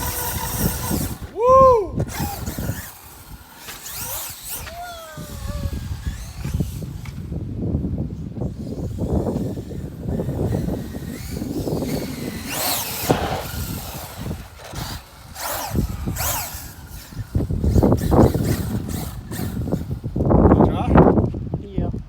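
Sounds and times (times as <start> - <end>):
electric motor whining: 0.0 - 21.3.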